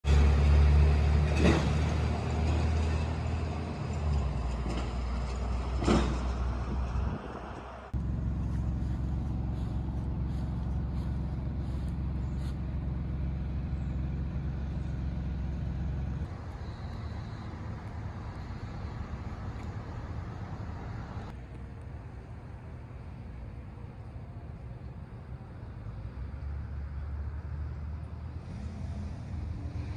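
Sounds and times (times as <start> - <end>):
street traffic rumble: 0.0 - 29.9.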